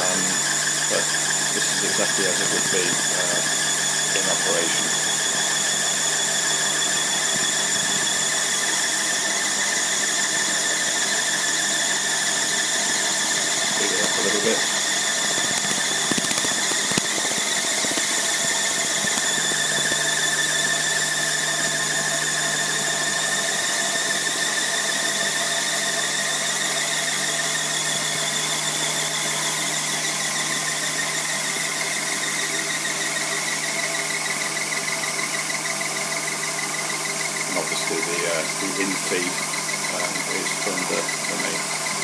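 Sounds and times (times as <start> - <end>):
grinder whining: 0.0 - 42.0.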